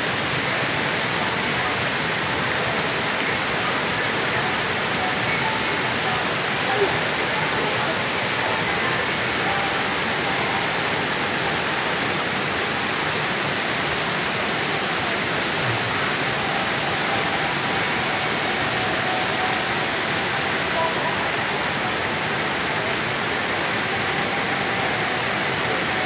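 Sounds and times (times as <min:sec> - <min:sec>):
waterfall rushing into a pool: 0:00.0 - 0:26.0.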